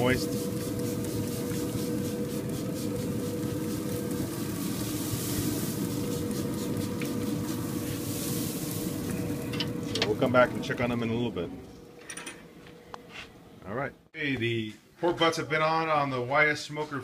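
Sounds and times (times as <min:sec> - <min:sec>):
smoker humming and hissing: 0:00.0 - 0:14.1.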